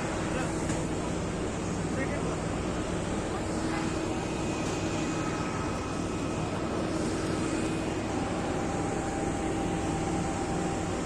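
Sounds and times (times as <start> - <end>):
aircraft engines droning: 0.0 - 11.0
high engine whine: 0.0 - 11.0.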